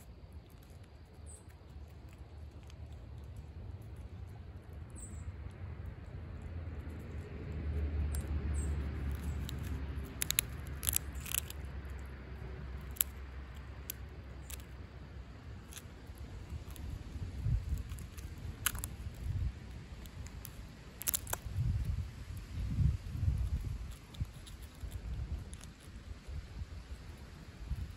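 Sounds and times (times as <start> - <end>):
low steady rumble: 0.0 - 27.9
skunk crunching peanuts: 0.0 - 27.9.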